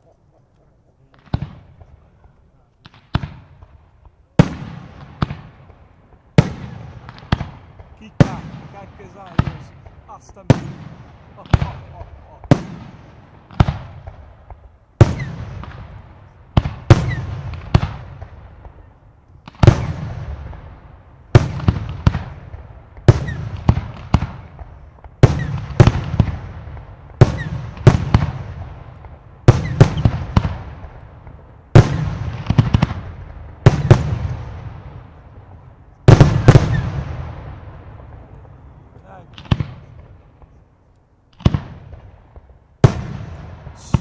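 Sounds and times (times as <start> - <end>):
firework bangs with rumbling echo: 1.1 - 40.6, 41.3 - 44.0.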